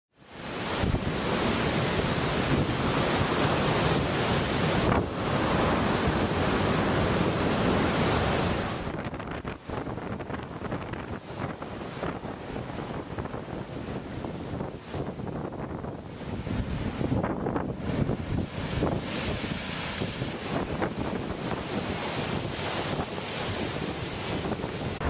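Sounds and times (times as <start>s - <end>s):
foaming surf washing in: 0.3s - 25.0s
waves breaking against sea wall: 0.3s - 25.0s
wind buffeting microphone: 0.5s - 25.0s.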